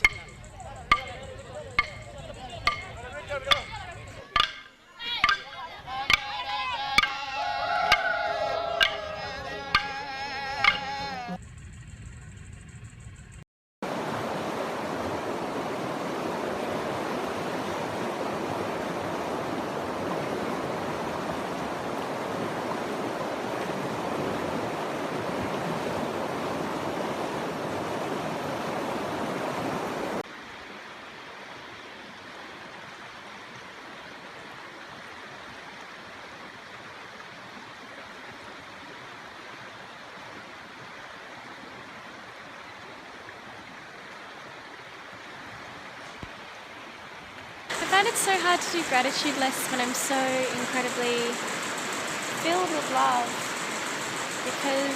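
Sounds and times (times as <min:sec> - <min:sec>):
water rushing: 0:00.0 - 0:11.4, 0:13.8 - 0:54.9.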